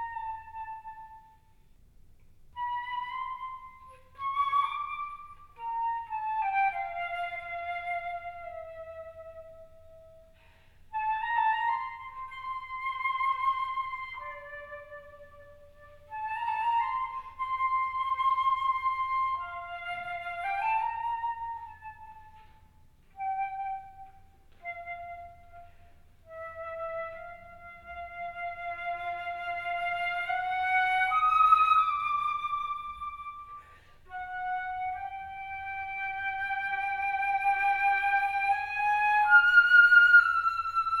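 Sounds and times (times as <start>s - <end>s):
flute playing slow melody: 0.0s - 1.6s, 2.5s - 41.0s.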